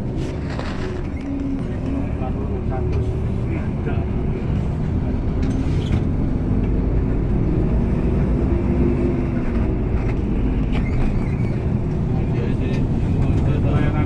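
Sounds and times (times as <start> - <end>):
coach engine hum: 0.0 - 14.0
road and tyre noise: 0.0 - 14.0.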